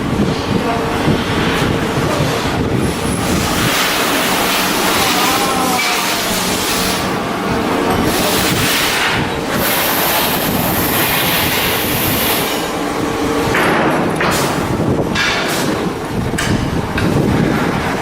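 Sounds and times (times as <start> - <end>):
steel machinery rattling and clattering: 0.1 - 18.0.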